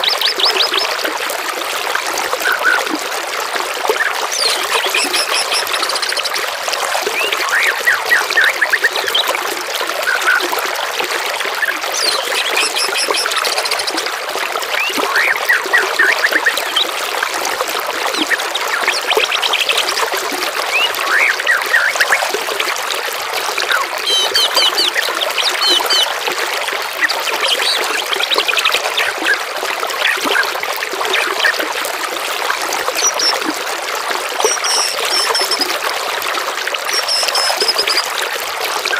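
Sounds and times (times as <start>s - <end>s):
running water babbling: 0.0s - 38.9s.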